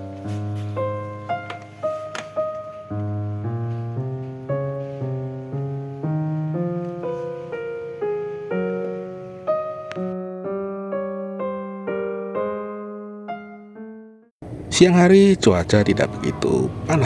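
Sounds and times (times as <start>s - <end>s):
gentle single-note melody: 0.0s - 14.3s.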